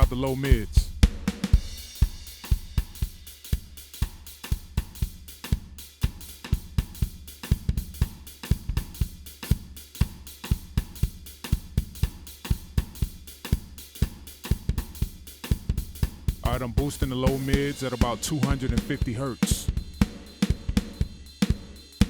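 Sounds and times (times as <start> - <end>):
drum kit groove: 0.0 - 22.0.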